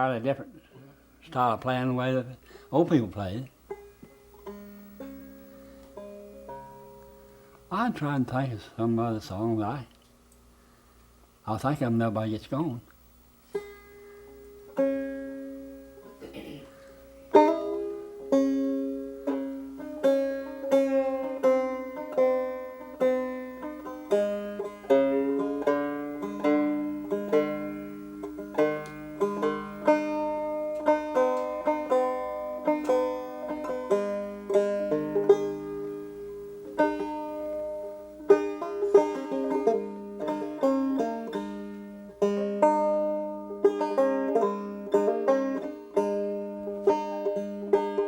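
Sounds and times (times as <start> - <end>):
banjo picking: 0.0 - 9.8, 13.4 - 48.0.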